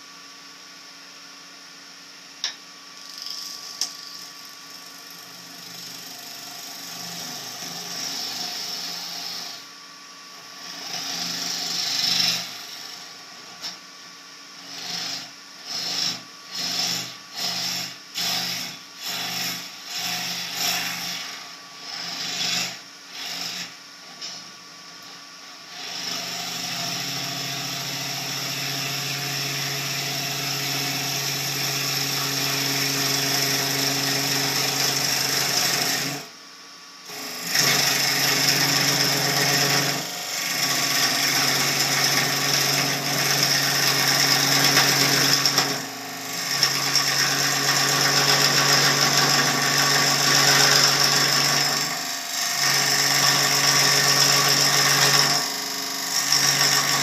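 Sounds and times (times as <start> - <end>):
wood lathe motor hum: 2.4 - 9.7, 10.4 - 13.8, 14.6 - 24.4, 25.0 - 36.3, 37.1 - 57.0
gouge cutting wood with hiss: 5.6 - 9.6, 10.6 - 13.8, 14.6 - 24.4, 25.7 - 36.3, 37.1 - 57.0.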